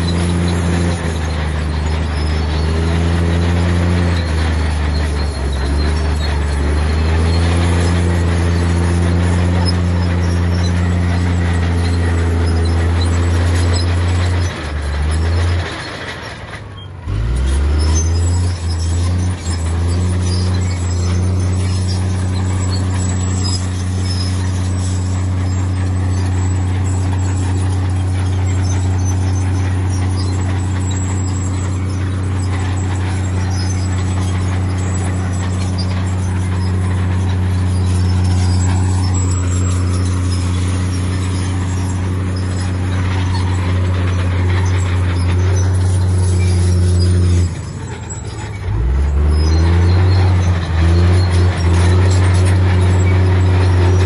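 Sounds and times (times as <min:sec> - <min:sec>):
diesel earthmoving machinery running: 0:00.0 - 0:54.0.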